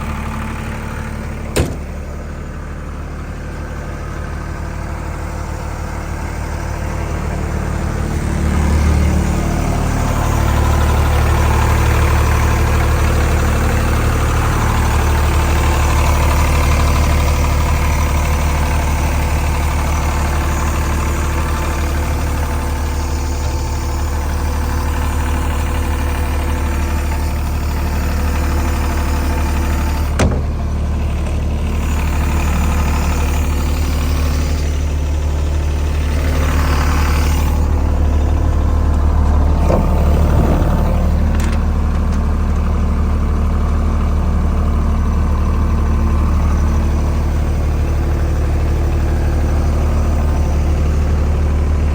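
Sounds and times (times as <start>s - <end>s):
diesel compressor engine running: 0.0s - 51.9s.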